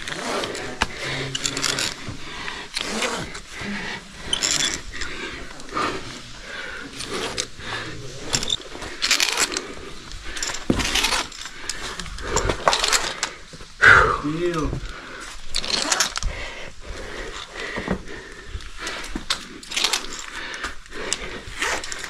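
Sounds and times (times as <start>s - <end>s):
carabiners clinking on rope: 0.0s - 13.5s, 14.5s - 16.4s, 18.5s - 22.0s
gloves scraping against rock: 0.0s - 22.0s.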